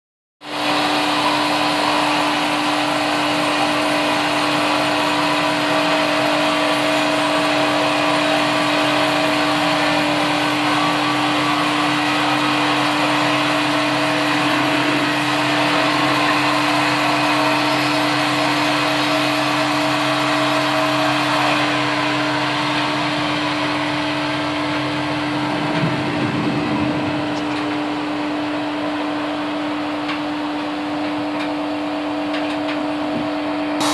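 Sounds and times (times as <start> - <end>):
sawmill machine hum: 0.4 - 33.9.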